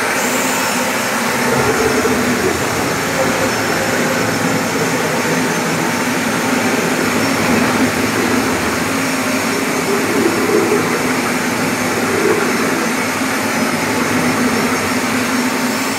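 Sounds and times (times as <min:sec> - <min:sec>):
marble grinding machine running: 0:00.0 - 0:15.9
steady machine hum: 0:00.0 - 0:15.9.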